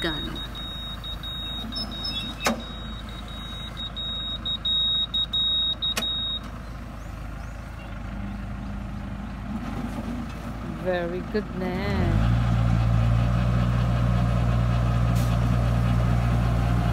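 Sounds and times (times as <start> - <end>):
engine rumbling: 0.0 - 16.9.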